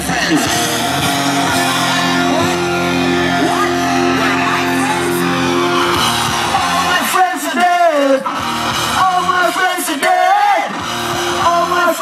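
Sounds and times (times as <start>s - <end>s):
live music over sound system: 0.0s - 12.0s.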